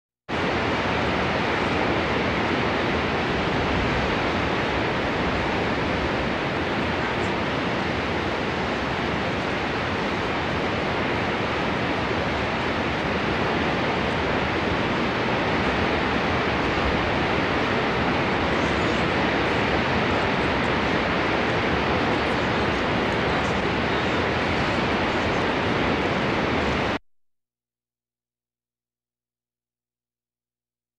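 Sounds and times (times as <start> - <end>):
waterfall rushing: 0.4 - 27.0.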